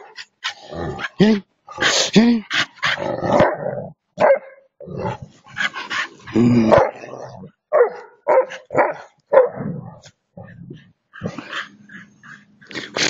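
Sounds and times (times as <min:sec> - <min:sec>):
dogs growling barks: 0:00.0 - 0:13.0.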